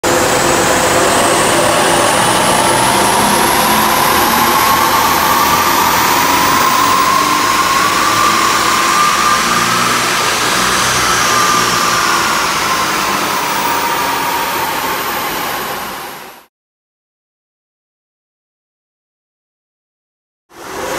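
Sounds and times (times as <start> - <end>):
diesel engine under full load: 0.0 - 16.5, 20.6 - 20.9.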